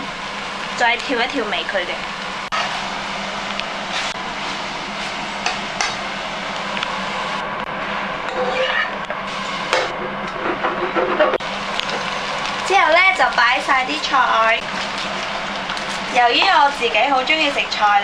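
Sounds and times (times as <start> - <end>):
noodles sizzling in a frying pan: 0.0 - 8.2, 11.4 - 18.0.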